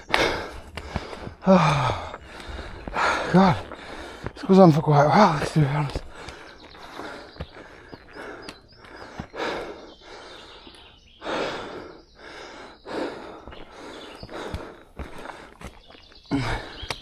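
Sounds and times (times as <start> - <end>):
person breathing hard: 0.0 - 4.4, 6.0 - 17.0
faint footsteps: 0.0 - 10.9, 12.9 - 17.0.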